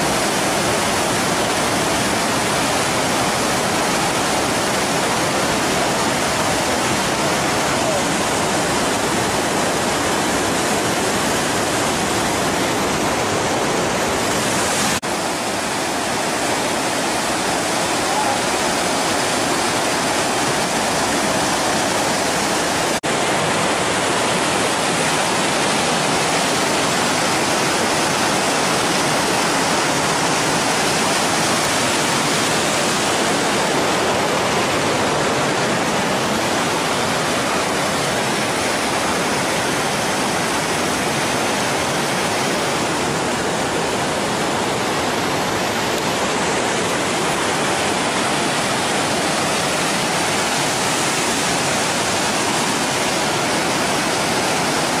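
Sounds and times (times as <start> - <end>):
waterfall and river rushing: 0.0 - 55.0.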